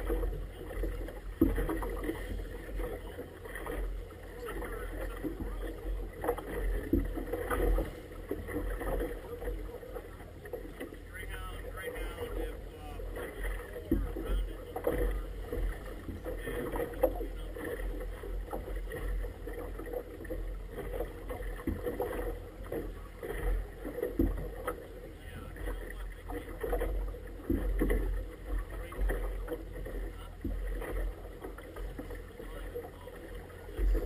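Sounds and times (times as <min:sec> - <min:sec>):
water splashing against boat: 0:00.0 - 0:34.0.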